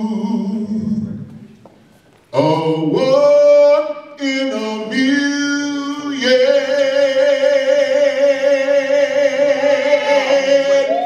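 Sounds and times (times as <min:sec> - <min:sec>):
man singing unaccompanied: 0:00.0 - 0:01.3, 0:02.3 - 0:11.0.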